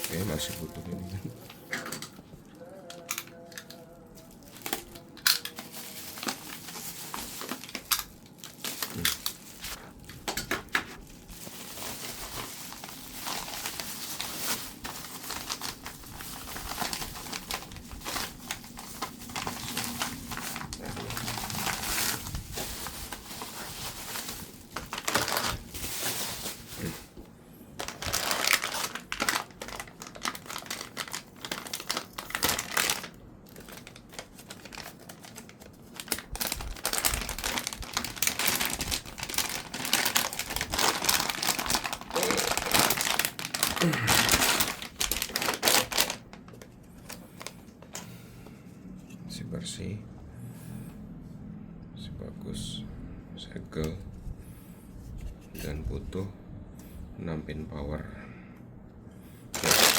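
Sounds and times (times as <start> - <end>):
plastic packaging crinkling: 0.0 - 48.1, 59.5 - 59.9.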